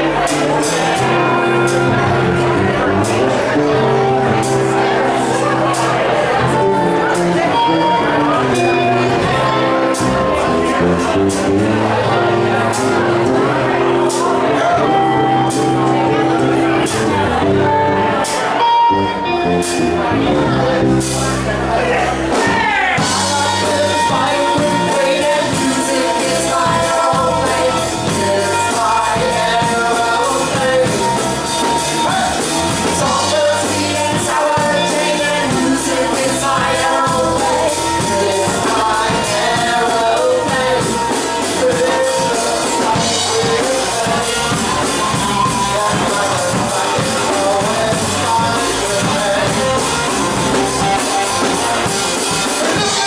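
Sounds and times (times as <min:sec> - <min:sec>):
person singing: 0:00.0 - 0:53.0
rock band playing: 0:00.0 - 0:53.0.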